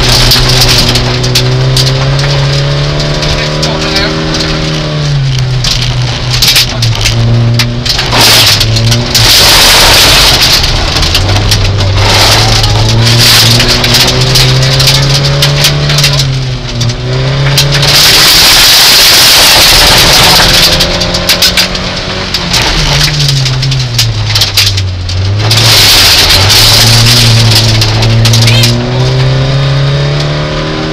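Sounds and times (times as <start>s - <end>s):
stones rattling against car underside: 0.0s - 18.6s, 19.2s - 29.3s
rally car engine shifting gears: 0.0s - 30.9s.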